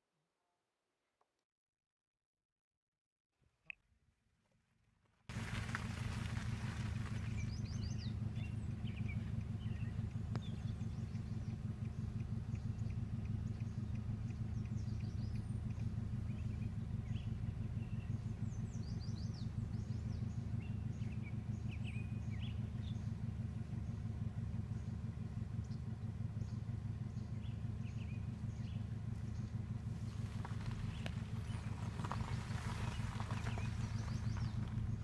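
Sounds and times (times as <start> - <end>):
low hum: 5.3 - 35.0
songbirds chirping: 5.3 - 35.0.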